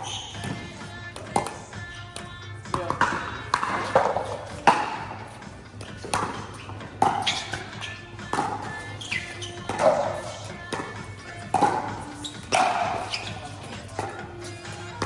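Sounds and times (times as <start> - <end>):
paddles hitting plastic ball: 0.0 - 15.0.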